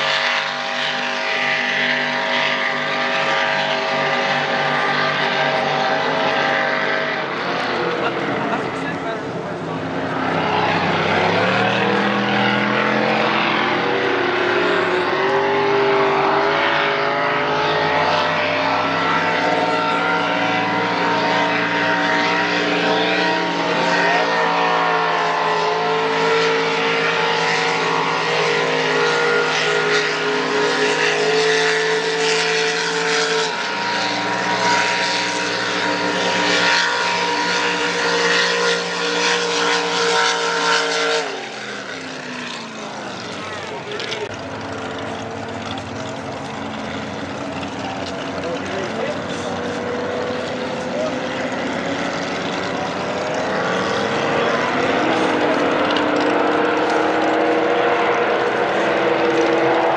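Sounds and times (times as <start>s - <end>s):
racing powerboat engines droning: 0.0s - 59.9s.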